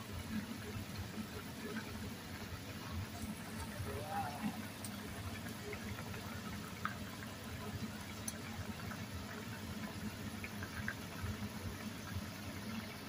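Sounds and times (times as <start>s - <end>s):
soup bubbling at a boil: 0.0s - 13.0s.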